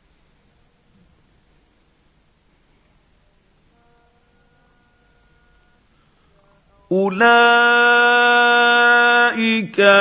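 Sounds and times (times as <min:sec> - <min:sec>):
faint recording hiss: 0:00.0 - 0:10.0.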